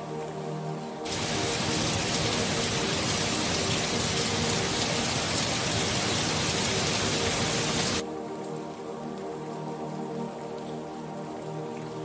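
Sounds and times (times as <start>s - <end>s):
heavy rain on trees: 1.0s - 12.0s.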